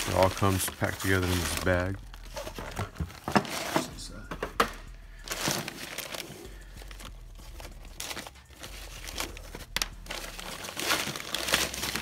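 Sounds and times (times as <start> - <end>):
nylon bag rustling: 0.0 - 3.9, 5.2 - 12.0.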